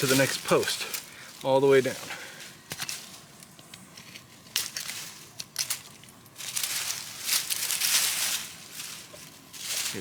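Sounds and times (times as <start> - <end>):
crackling crunching rustle: 0.0 - 10.0.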